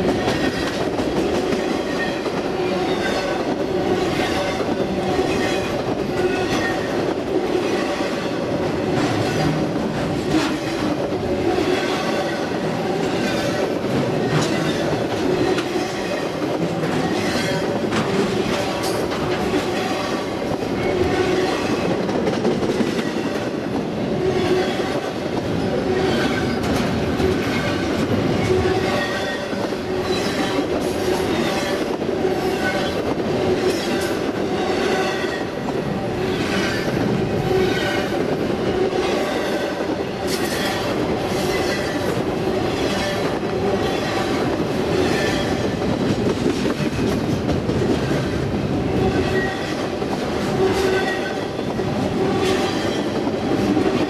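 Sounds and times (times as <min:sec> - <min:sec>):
train wheels clattering on rails: 0:00.0 - 0:54.0.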